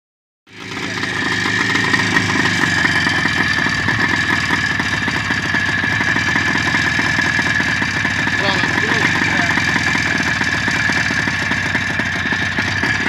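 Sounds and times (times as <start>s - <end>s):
high whine: 0.5s - 13.0s
motorcycle engine idling: 0.5s - 13.0s.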